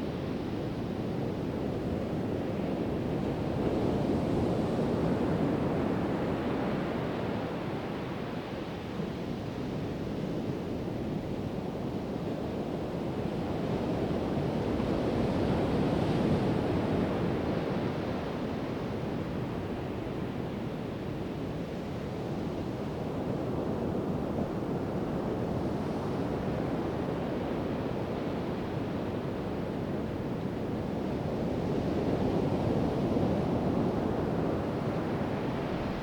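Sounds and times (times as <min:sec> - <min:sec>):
wind noise on microphone: 0:00.0 - 0:36.0.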